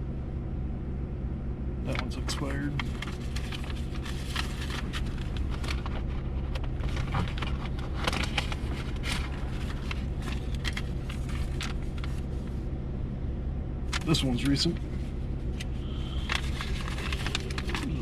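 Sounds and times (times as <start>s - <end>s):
truck engine idling: 1.4s - 18.0s
papers rustling: 1.9s - 12.6s, 13.9s - 18.0s.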